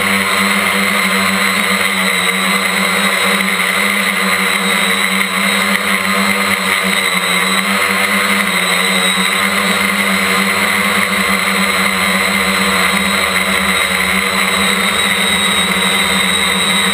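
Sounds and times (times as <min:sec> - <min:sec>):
drone motors whining: 0:00.0 - 0:16.9.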